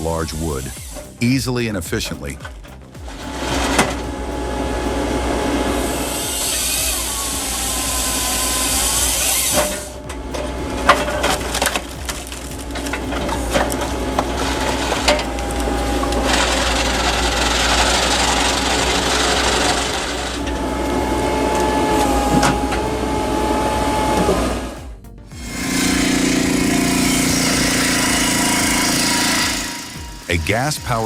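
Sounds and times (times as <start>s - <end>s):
firewood machinery running: 0.0s - 31.0s
thin steady whine: 0.0s - 31.0s.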